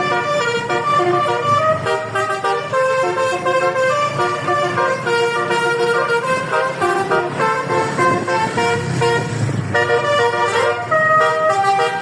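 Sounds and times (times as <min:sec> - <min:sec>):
multi-tone bus horn playing a tune: 0:00.0 - 0:12.0.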